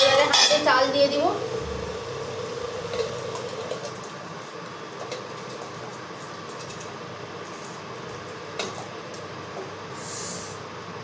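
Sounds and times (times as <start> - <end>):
pot of water humming and hissing: 0.0 - 11.0.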